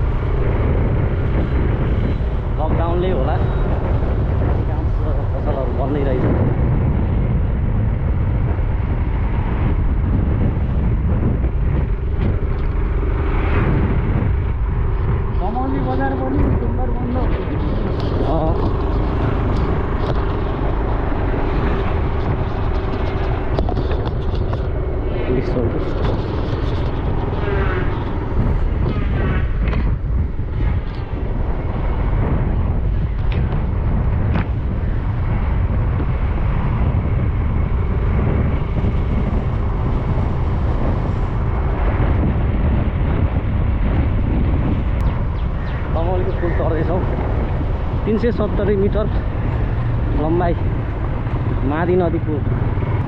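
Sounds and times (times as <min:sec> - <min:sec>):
road noise: 0:00.0 - 0:53.0
wind rumble on microphone: 0:00.0 - 0:53.0
motorcycle engine: 0:06.4 - 0:53.0.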